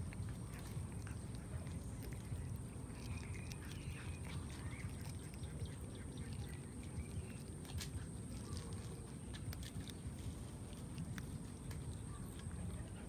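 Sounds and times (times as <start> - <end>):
cat chewing raw fish: 0.0 - 13.0
steady low rumble: 0.0 - 13.0.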